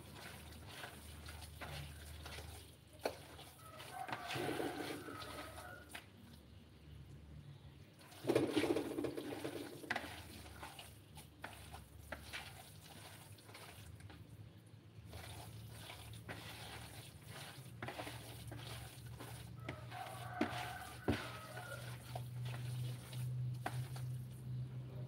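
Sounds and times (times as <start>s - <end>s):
hand squishing wet mixture: 0.0s - 25.0s.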